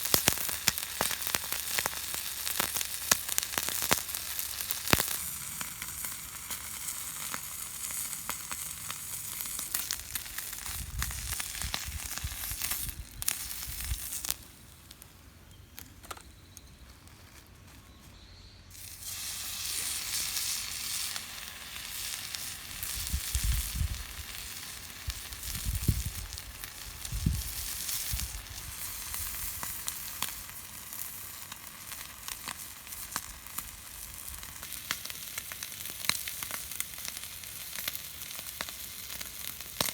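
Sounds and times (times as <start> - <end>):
food sizzling on griddle: 0.0 - 14.5, 18.7 - 39.9.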